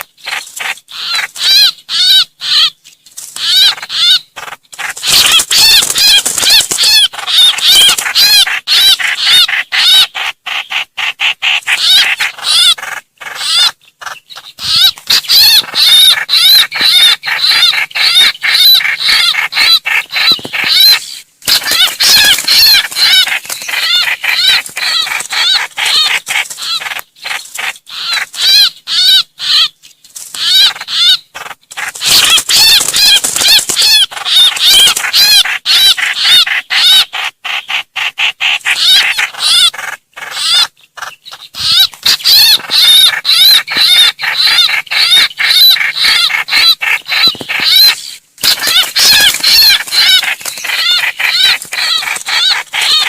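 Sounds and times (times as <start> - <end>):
birds giving rapid distress calls: 0.0 - 53.0.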